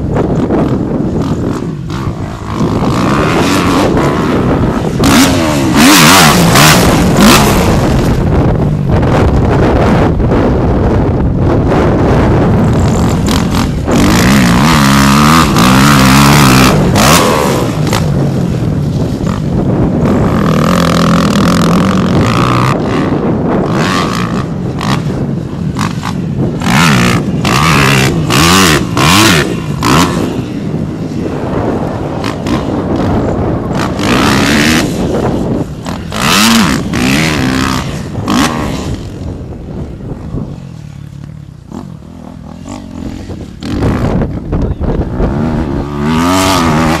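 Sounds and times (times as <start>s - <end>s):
motocross bike engine revving: 0.0s - 11.0s, 11.7s - 47.0s.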